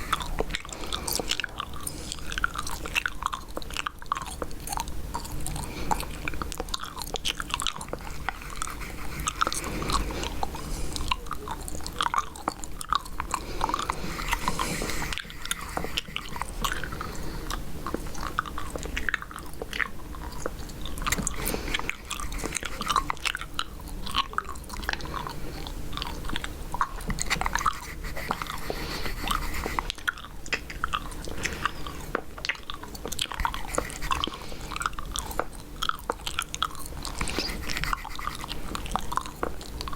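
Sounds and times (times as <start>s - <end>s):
gum chewing wet smacks: 0.0s - 39.9s.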